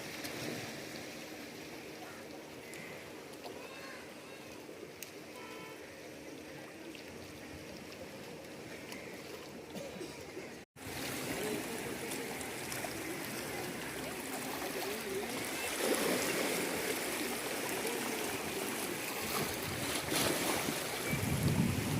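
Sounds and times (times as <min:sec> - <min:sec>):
flowing lapping water: 0:00.0 - 0:21.9
faint voices: 0:01.7 - 0:19.8.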